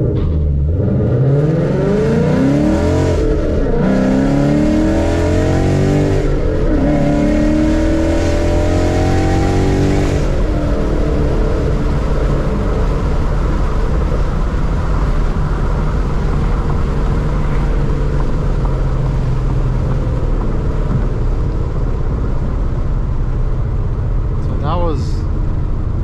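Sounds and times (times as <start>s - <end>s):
car engine droning: 0.0s - 26.0s
road and wind noise: 0.0s - 26.0s.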